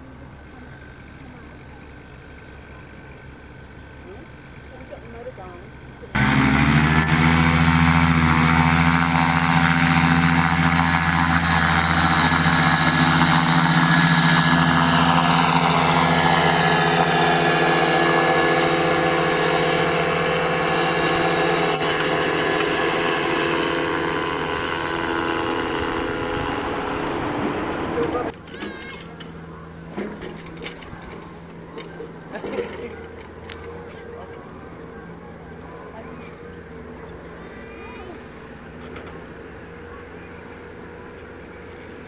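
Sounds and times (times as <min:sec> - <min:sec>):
paramotor engine and propeller revving: 0:00.0 - 0:42.0.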